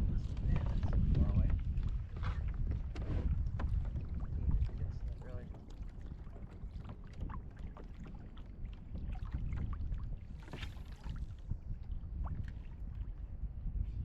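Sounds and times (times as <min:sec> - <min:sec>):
wind buffeting microphone: 0:00.0 - 0:14.0
water lapping against kayak hull: 0:00.3 - 0:14.0.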